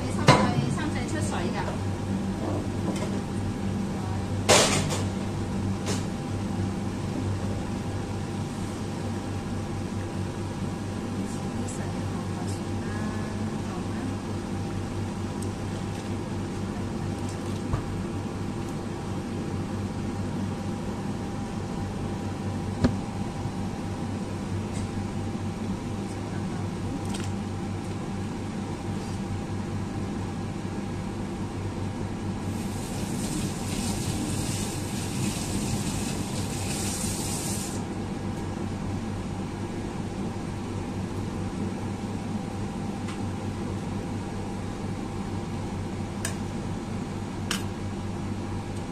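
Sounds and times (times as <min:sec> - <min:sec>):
fan humming: 0:00.0 - 0:48.9.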